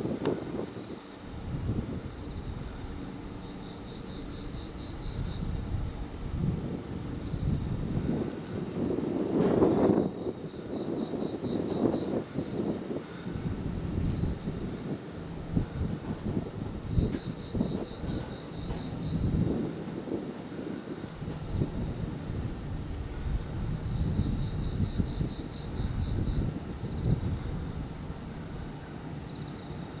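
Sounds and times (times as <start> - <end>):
insect pulsed chirping: 0.0 - 30.0
insects shrilling: 0.0 - 30.0.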